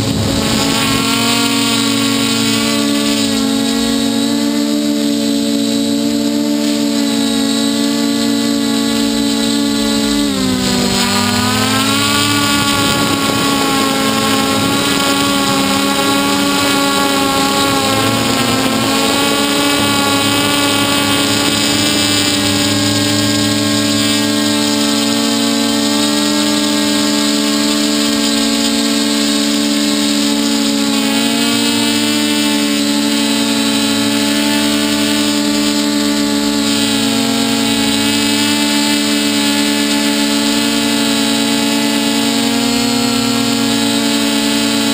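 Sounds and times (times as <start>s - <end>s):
drone propellers buzzing: 0.0s - 44.9s.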